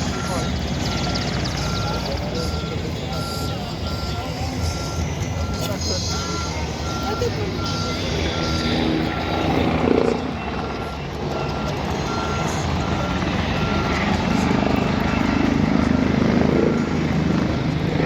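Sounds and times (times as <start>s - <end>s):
reversing alarm beeping: 0.0s - 17.7s
engines running: 0.0s - 18.0s.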